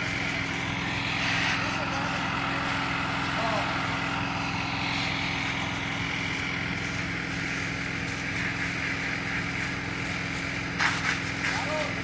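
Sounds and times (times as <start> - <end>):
fire engine motor running: 0.0 - 12.0.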